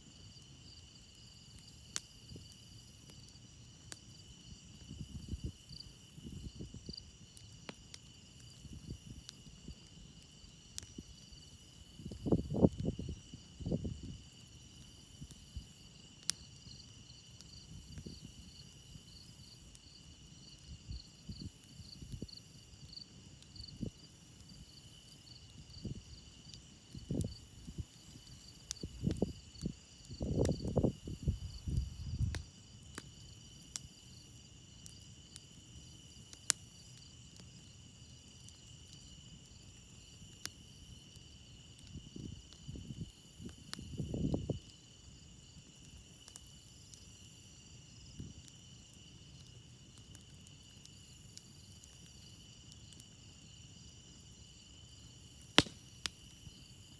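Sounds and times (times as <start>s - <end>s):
crickets chirping: 0.0s - 56.9s
campfire crackling and popping: 0.1s - 56.9s.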